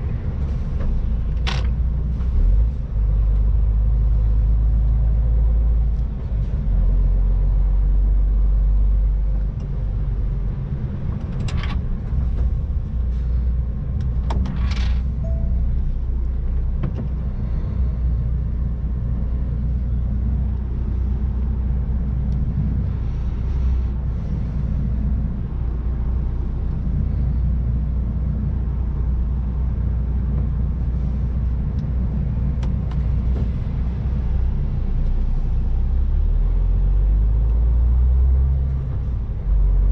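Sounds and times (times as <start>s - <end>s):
road rumble: 0.0s - 39.9s
truck diesel engine droning: 0.0s - 39.9s.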